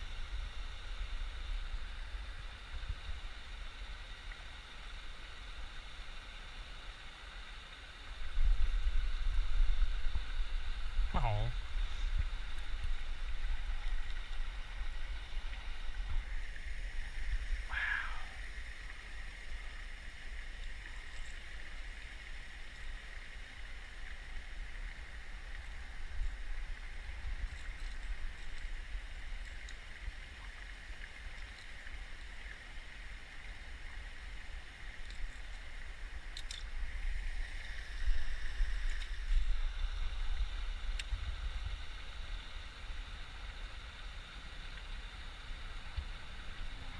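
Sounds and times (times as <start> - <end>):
outdoor rumble and hiss: 0.0 - 46.9.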